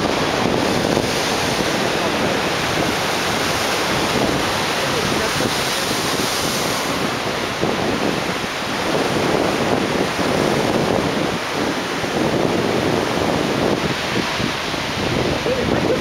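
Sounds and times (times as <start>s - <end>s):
surf breaking over rocks: 0.0s - 16.0s
wind buffeting microphone: 0.0s - 16.0s.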